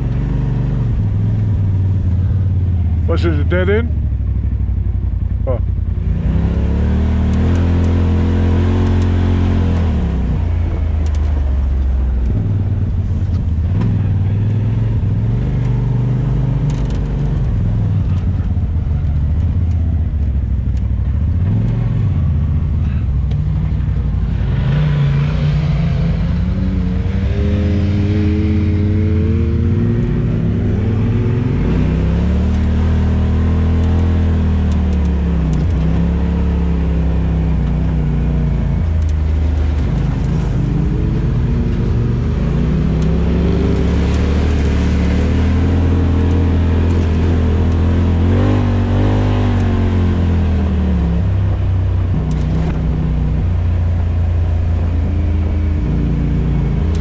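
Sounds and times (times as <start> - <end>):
off-road vehicle engine revving: 0.0 - 4.7, 5.4 - 57.0.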